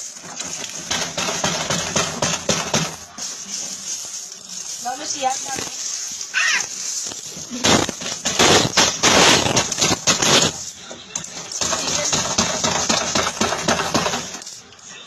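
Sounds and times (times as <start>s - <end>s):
metal coins clattering: 0.0s - 14.8s.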